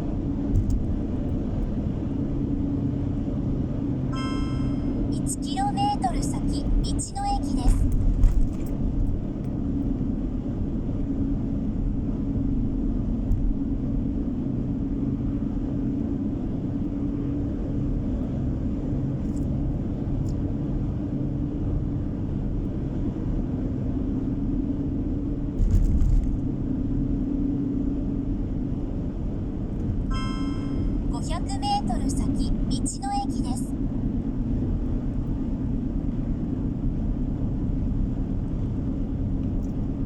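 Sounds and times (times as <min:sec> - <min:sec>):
car driving from inside cabin: 0:00.0 - 0:32.9, 0:33.8 - 0:40.0.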